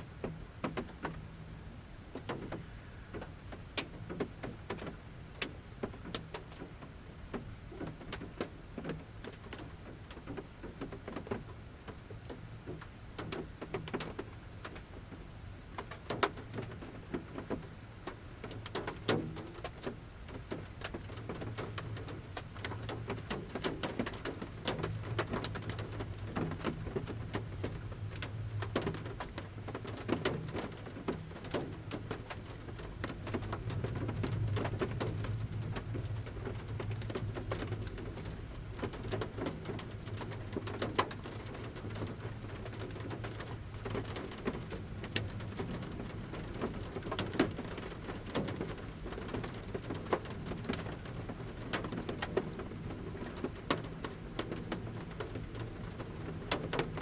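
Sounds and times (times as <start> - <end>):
raindrops pattering on roof: 0.0 - 57.0.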